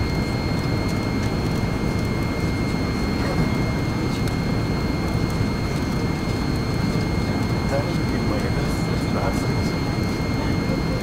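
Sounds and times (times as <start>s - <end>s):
airliner cabin rumble and hiss: 0.0s - 11.0s.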